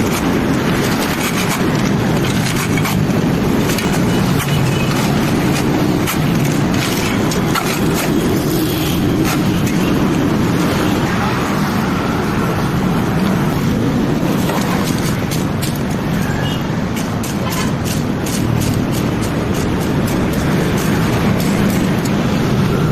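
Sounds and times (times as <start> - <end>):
sharp clicks and knocks: 0.0 - 10.8, 14.2 - 22.4
construction machinery engine running: 0.0 - 22.9.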